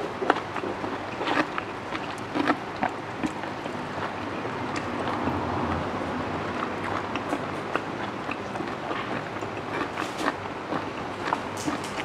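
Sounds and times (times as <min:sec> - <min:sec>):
chewing and mouth smacks: 0:00.2 - 0:05.8, 0:06.4 - 0:12.0.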